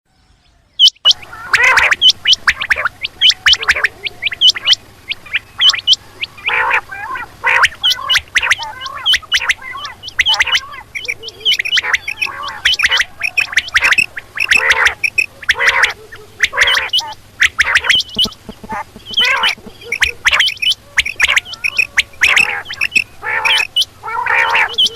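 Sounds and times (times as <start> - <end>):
faint low hum: 0.1 - 24.9
quail whistled calls: 0.4 - 24.9
harsh chattering calls: 0.8 - 24.9.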